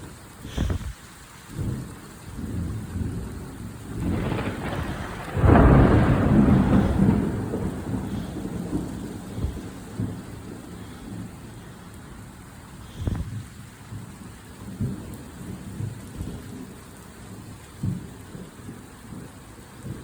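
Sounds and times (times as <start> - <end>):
steady rain: 0.0 - 20.0
thunder crack and rumble: 0.5 - 20.0.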